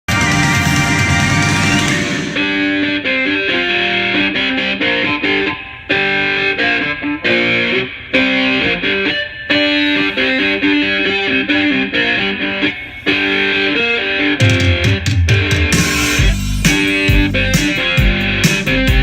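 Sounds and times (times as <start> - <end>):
electric guitar with effects: 0.0 - 19.0.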